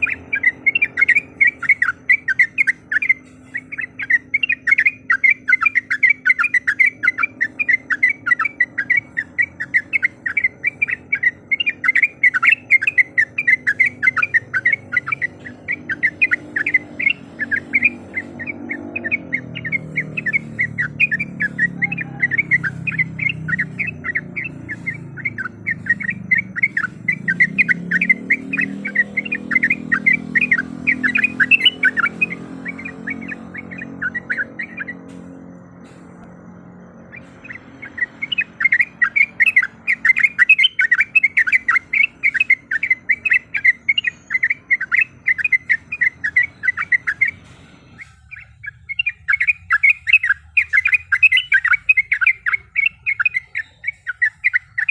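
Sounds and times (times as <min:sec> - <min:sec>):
bird chattering calls: 0:00.0 - 0:54.9.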